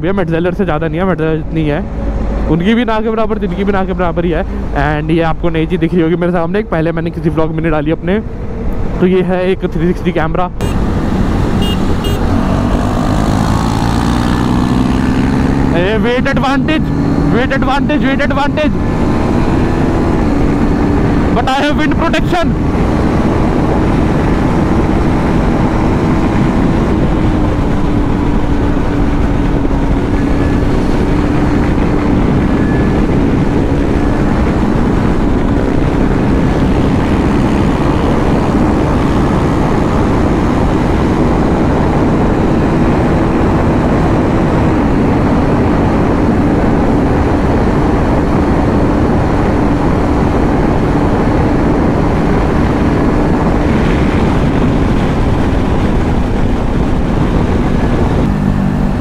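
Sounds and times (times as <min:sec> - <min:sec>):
wind rush: 0:06.6 - 0:59.0
motorcycle engine droning: 0:10.6 - 0:59.0.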